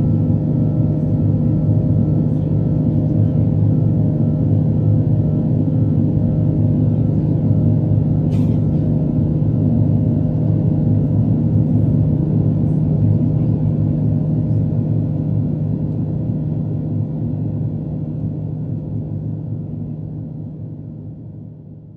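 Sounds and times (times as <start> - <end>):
airplane cabin engine drone: 0.0 - 21.9.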